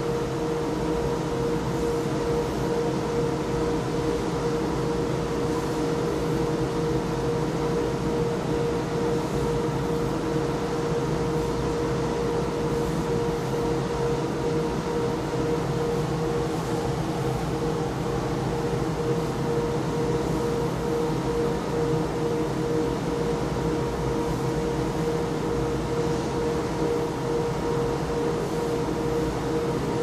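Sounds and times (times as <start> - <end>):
industrial machinery drone: 0.0 - 30.0.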